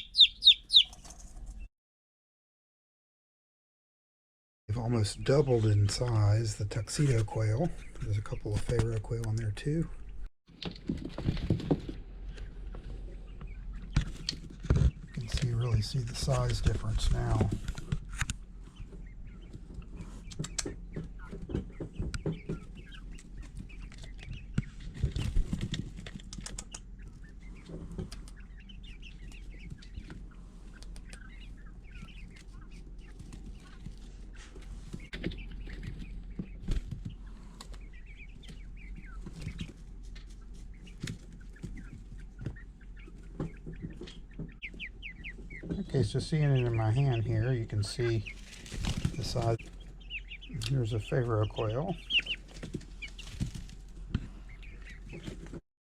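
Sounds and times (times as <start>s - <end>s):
chicks peeping and chirping: 0.0s - 1.7s, 4.7s - 55.6s.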